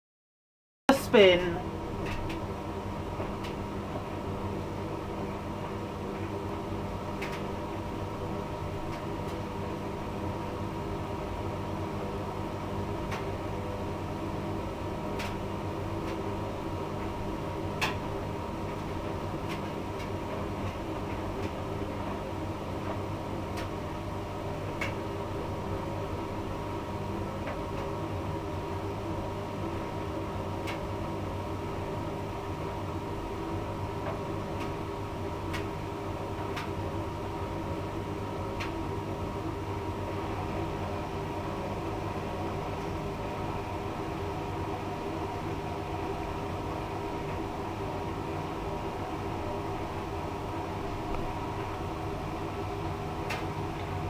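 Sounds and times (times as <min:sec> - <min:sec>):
washing machine motor hum: 0:00.9 - 0:54.0.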